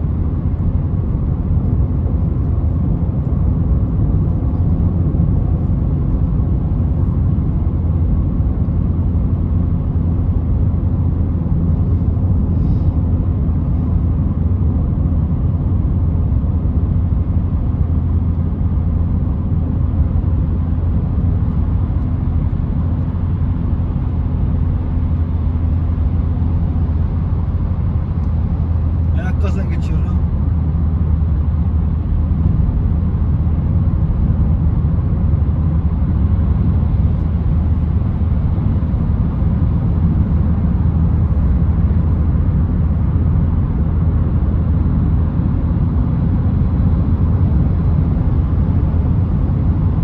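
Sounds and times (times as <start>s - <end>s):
car cabin engine drone: 0.0s - 50.0s
low steady hum: 0.0s - 50.0s
road and tyre noise: 0.0s - 50.0s.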